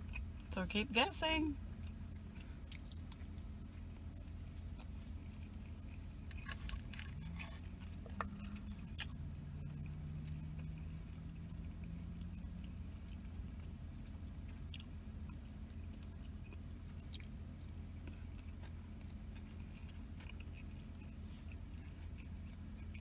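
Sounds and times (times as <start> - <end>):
person chewing: 0.0 - 0.5, 1.6 - 23.0
low hum: 0.0 - 23.0.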